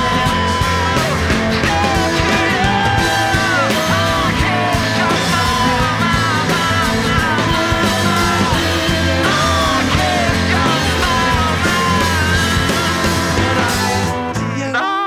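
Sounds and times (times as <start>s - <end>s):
strummed acoustic guitar: 0.0s - 14.7s
man and woman singing: 0.0s - 15.0s.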